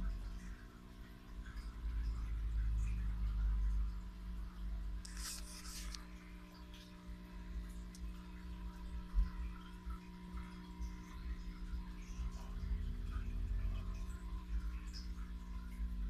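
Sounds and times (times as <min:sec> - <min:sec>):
aquarium equipment hum: 0:00.0 - 0:16.0.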